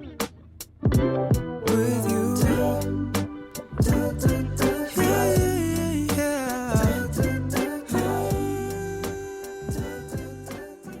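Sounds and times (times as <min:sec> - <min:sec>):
plucked guitar: 0:00.0 - 0:11.0
steady beats: 0:00.3 - 0:11.0.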